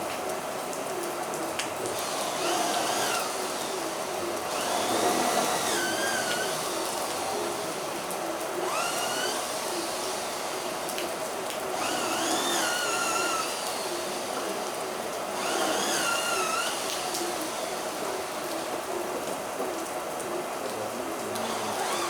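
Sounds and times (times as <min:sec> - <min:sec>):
heavy rain hissing: 0:01.7 - 0:22.0.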